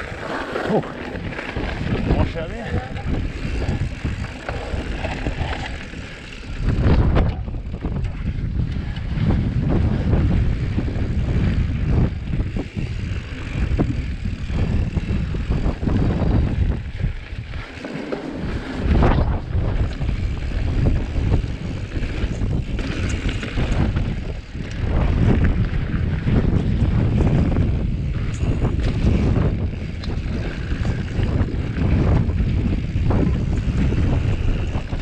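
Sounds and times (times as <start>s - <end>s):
bike rattling over bumps: 0.0s - 35.0s
wind buffeting microphone: 0.0s - 35.0s.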